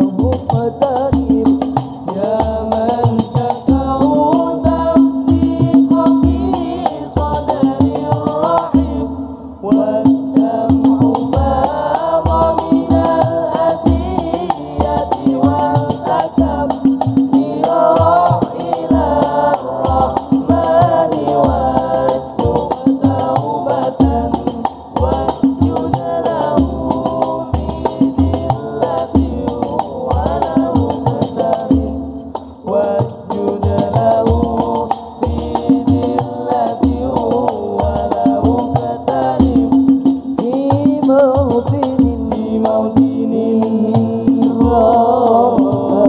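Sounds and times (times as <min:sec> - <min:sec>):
frame drums rhythm: 0:00.0 - 0:46.0
male voices singing in unison: 0:00.0 - 0:46.0.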